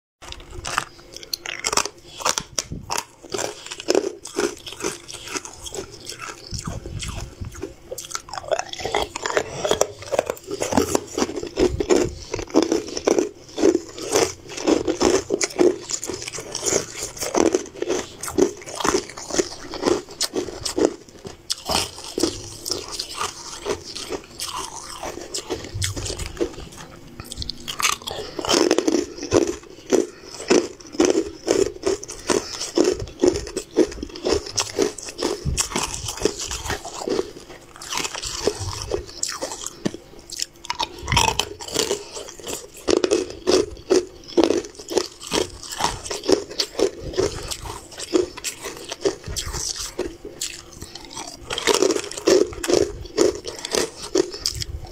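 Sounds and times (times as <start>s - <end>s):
person crunching sweets: 0.2s - 54.9s.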